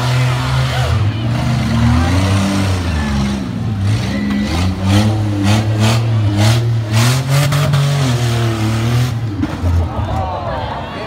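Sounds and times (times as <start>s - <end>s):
engines revving: 0.0s - 10.8s.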